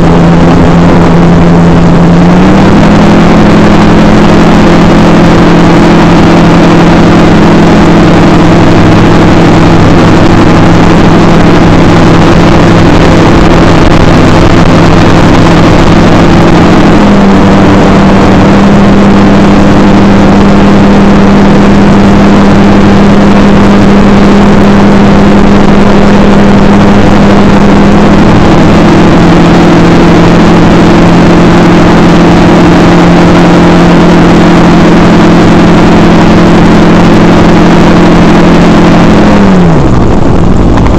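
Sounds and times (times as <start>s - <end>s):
model aircraft propeller droning: 0.0s - 40.9s.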